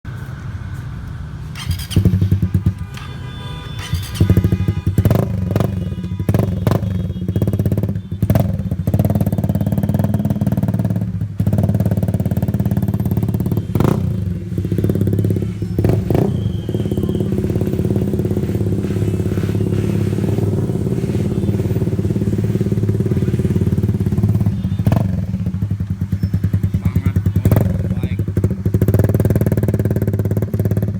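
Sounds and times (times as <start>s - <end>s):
motorcycle engine running: 1.5s - 30.9s.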